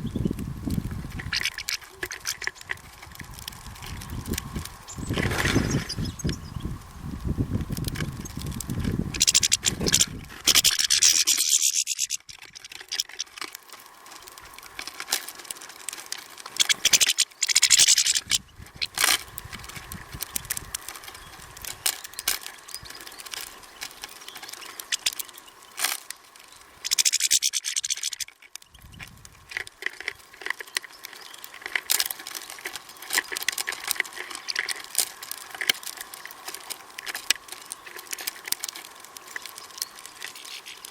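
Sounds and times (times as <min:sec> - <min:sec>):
hissing rustle: 0:00.0 - 0:40.9.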